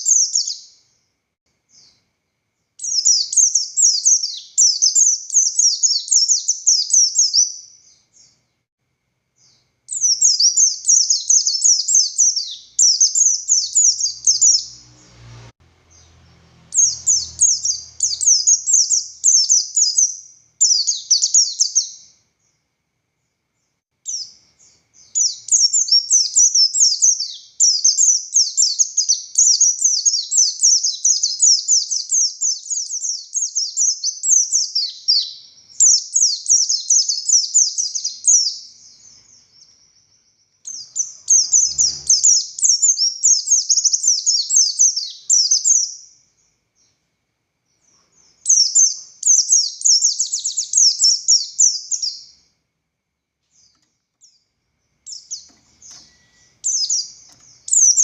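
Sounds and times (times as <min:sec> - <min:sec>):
bird singing chattering song: 0:00.0 - 0:01.0, 0:01.7 - 0:02.1, 0:02.8 - 0:08.6, 0:09.4 - 0:22.6, 0:23.6 - 0:47.0, 0:47.7 - 0:52.5, 0:53.5 - 0:58.0.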